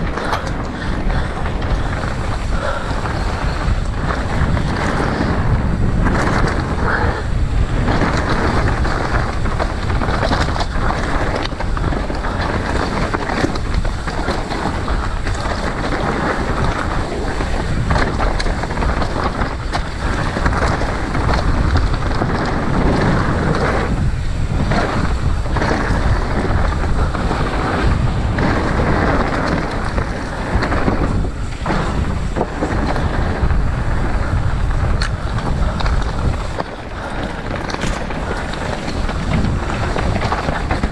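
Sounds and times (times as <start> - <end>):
bike knocks and rattles: 0.0 - 40.9
steady rumble: 0.0 - 40.9
wind buffeting microphone: 0.0 - 40.9.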